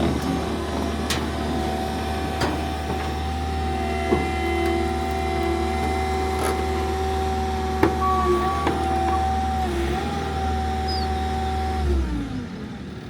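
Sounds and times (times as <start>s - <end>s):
track loader running: 0.0s - 13.0s.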